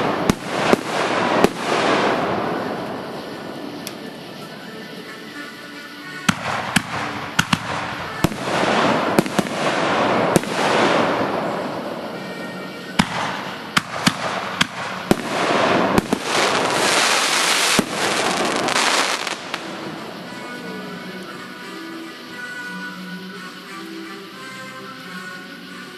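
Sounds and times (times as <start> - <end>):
fireworks bangs: 0.0 - 23.8
fireworks crackling fizz: 0.0 - 25.9.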